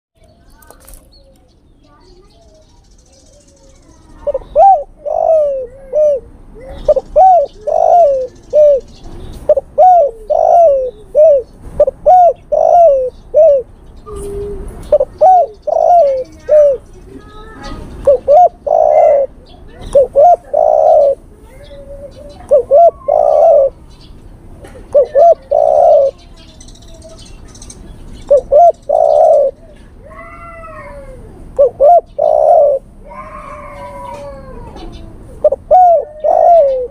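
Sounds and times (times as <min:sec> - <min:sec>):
dove cooing: 0:04.0 - 0:23.9, 0:24.6 - 0:27.3, 0:28.2 - 0:36.9.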